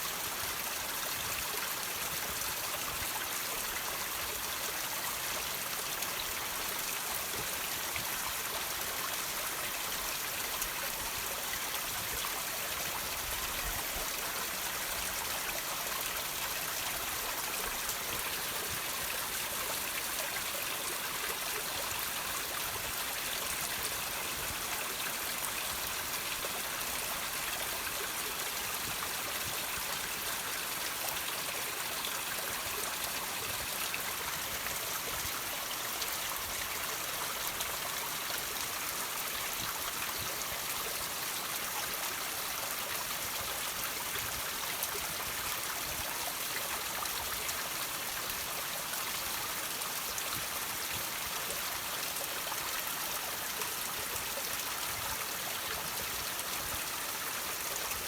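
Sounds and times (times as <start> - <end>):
water trickling over rocks: 0.1 - 58.0.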